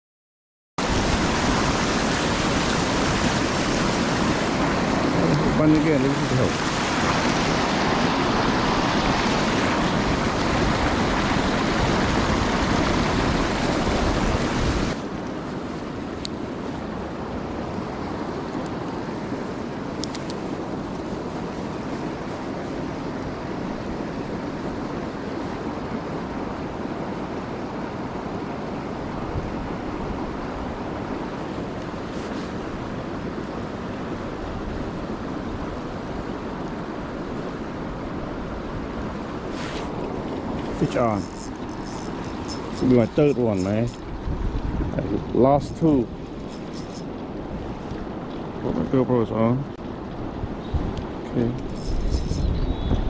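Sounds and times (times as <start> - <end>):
water rushing over dam: 0.8 - 49.6.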